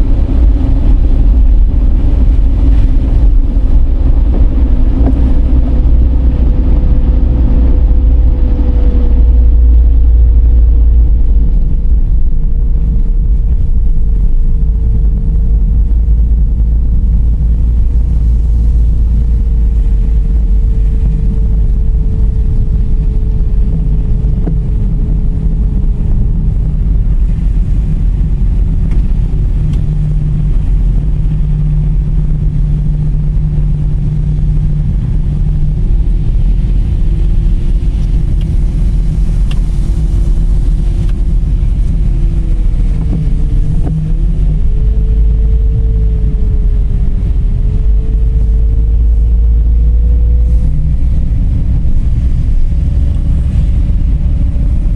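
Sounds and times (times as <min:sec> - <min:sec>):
car whine: 0:00.0 - 0:54.9
tyres and running gear rumbling: 0:00.0 - 0:54.9.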